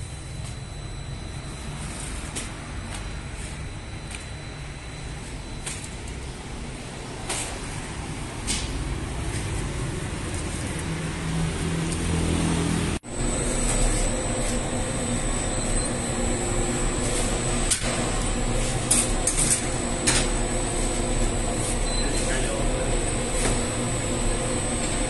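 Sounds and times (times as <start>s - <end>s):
bakery machine noise: 0.0s - 25.0s
dough-sheeting machine humming and whining: 0.0s - 25.0s.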